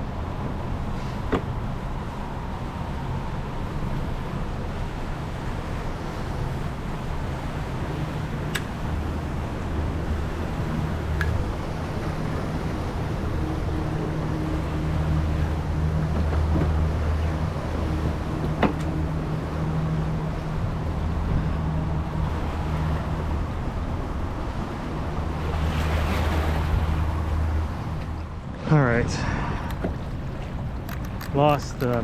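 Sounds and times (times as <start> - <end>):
low engine drone: 0.0 - 32.0
water noise: 0.0 - 32.0
wind: 0.0 - 32.0.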